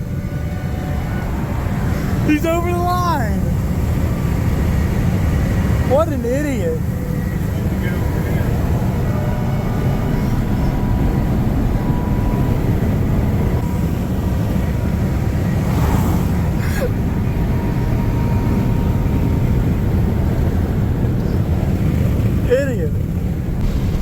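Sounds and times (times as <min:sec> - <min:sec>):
road and engine rumble: 0:00.0 - 0:24.0.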